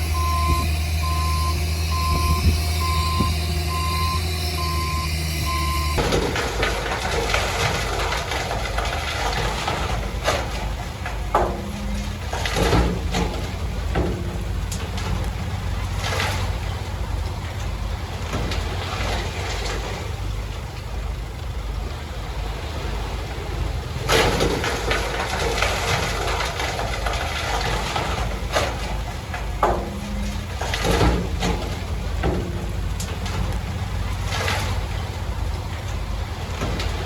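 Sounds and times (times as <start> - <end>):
metal clanks: 0.0 - 21.6, 24.0 - 37.0
diesel engine rumble: 0.0 - 37.0.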